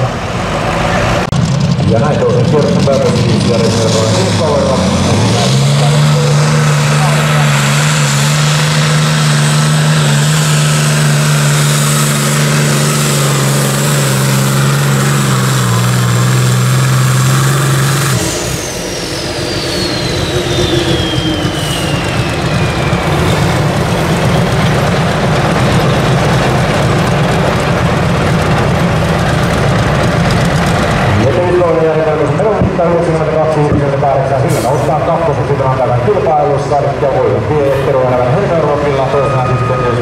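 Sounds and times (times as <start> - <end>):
high whine: 0.0 - 40.0
tractor engine under load: 0.0 - 40.0.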